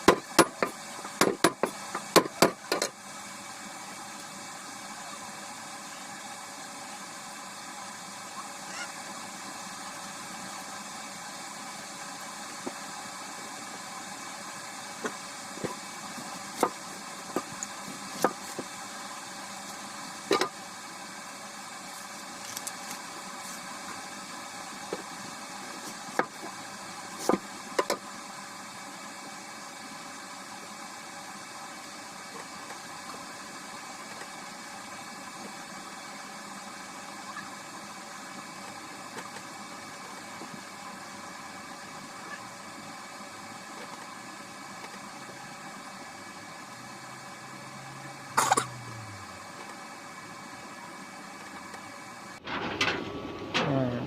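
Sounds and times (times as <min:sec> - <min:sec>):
kitchen appliance hiss and hum: 0:00.0 - 0:54.0.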